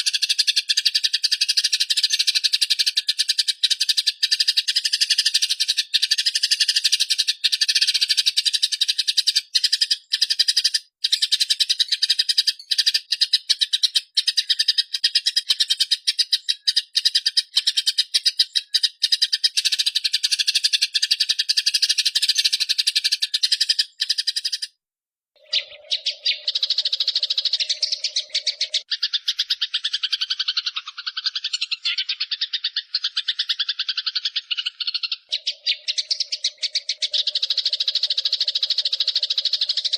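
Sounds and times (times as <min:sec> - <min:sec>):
sparrows chattering: 0:00.0 - 0:24.8, 0:25.4 - 0:39.9.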